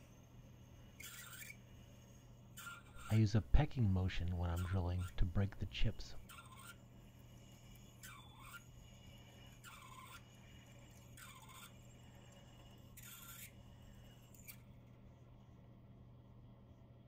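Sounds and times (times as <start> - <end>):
drill scraping squeal: 0.0 - 14.7.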